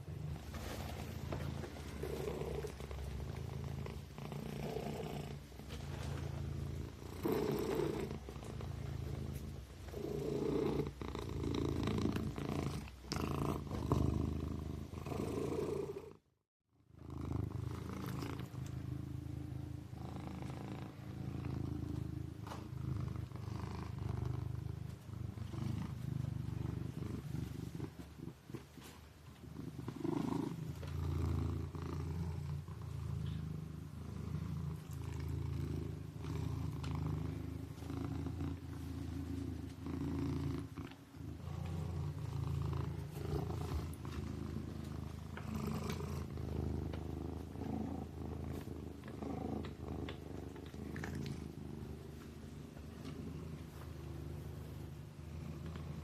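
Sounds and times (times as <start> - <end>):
kitten purring: 0.0 - 16.3, 16.9 - 56.0.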